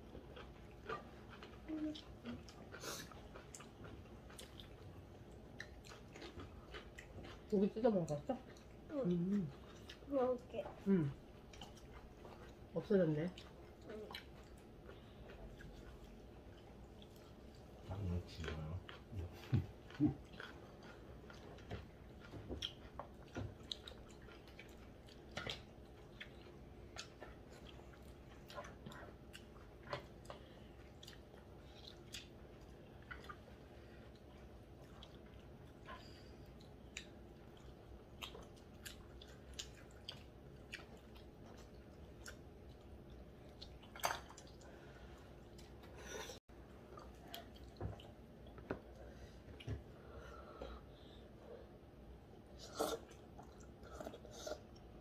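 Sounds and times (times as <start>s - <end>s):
people chewing and gnawing: 0.0s - 55.0s.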